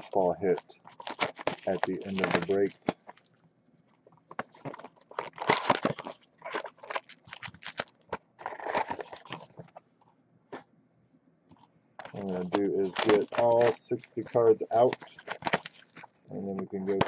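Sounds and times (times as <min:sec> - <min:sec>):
foil packs rustling and crinkling: 0:00.0 - 0:03.3, 0:04.3 - 0:09.8, 0:12.0 - 0:17.0.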